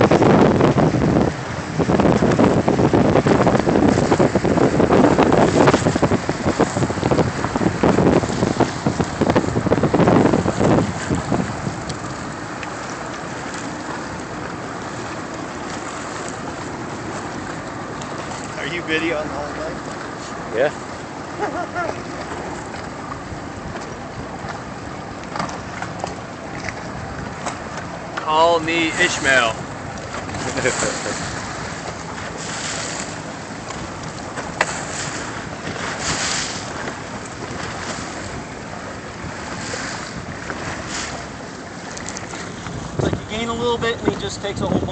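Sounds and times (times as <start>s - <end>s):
waves lapping: 0.0s - 44.9s
wind: 0.0s - 44.9s.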